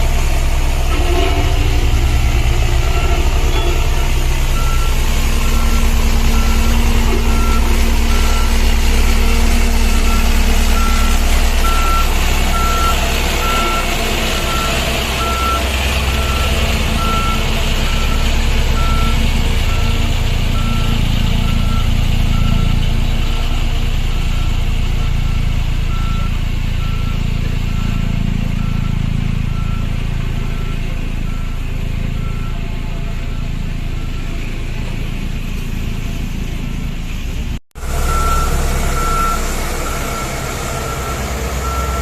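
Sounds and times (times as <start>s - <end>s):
road roller engine running: 0.0s - 42.0s
reversing alarm beeping: 1.0s - 23.6s, 24.2s - 34.4s, 37.8s - 42.0s.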